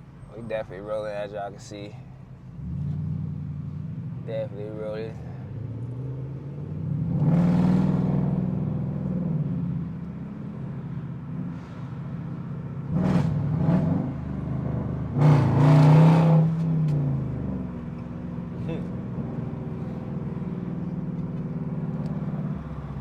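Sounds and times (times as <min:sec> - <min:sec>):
car engine accelerating hard: 0:02.6 - 0:23.0.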